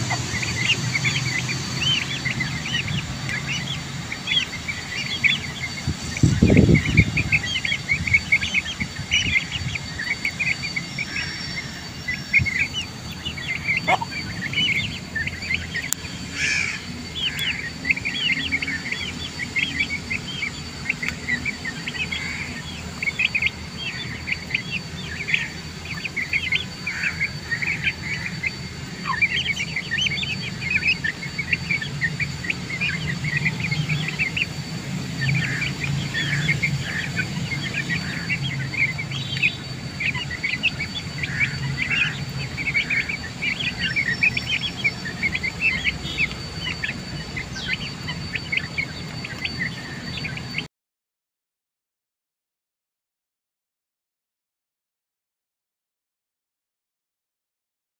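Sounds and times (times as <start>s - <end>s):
chicks peeping: 0.0s - 50.7s.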